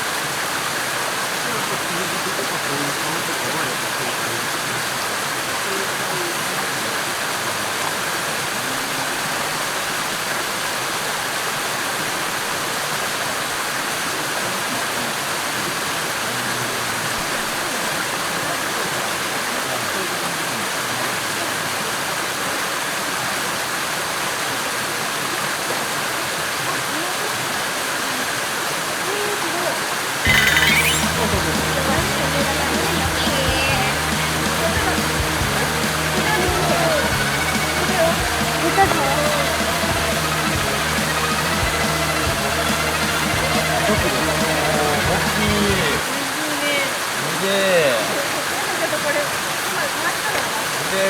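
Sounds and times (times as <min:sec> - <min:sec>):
water flowing over rocks: 0:00.0 - 0:51.0.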